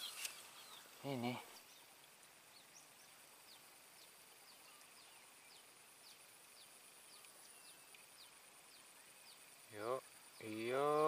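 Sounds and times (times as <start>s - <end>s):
faint steady high whine: 0.0s - 11.0s.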